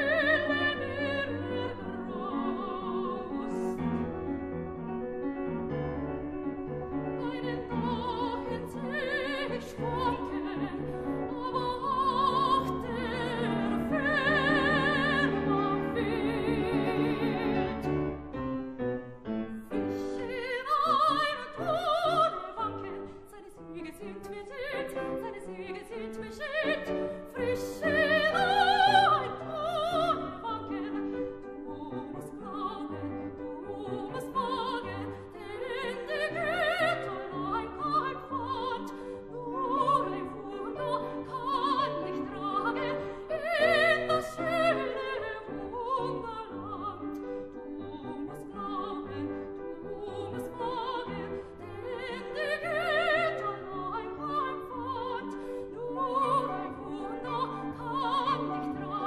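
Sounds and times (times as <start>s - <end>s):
soprano singing with vibrato: 0.0s - 4.2s, 6.9s - 18.1s, 19.5s - 59.0s
grand piano: 0.0s - 59.0s.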